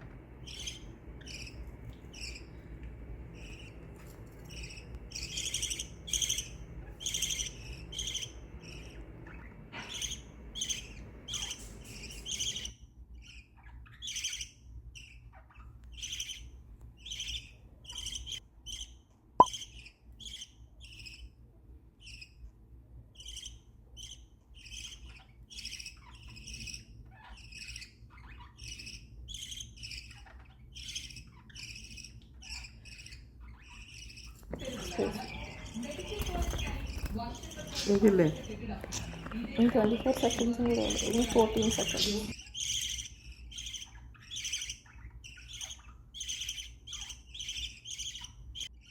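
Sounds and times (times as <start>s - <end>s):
parrots chirping: 0.0s - 21.3s, 23.1s - 48.9s.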